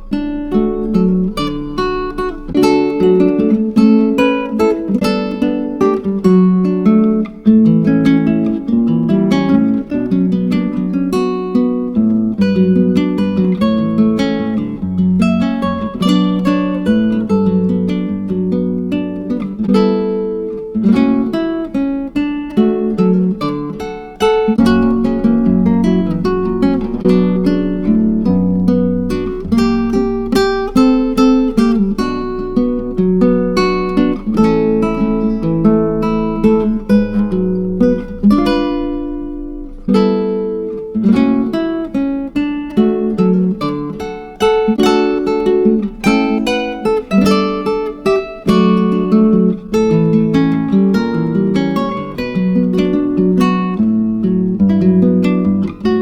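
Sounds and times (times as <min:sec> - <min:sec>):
acoustic guitar plucked and strummed: 0:00.0 - 0:56.0.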